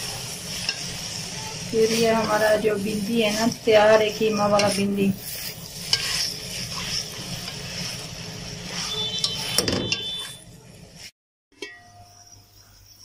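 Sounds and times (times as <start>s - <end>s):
frying hiss: 0.0s - 11.2s
spatula scraping metal pan: 0.5s - 11.1s.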